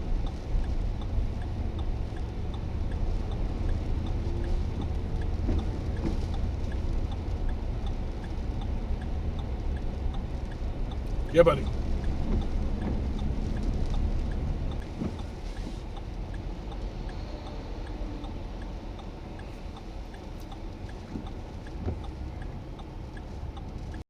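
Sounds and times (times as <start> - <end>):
light ticks: 0.0 - 24.0.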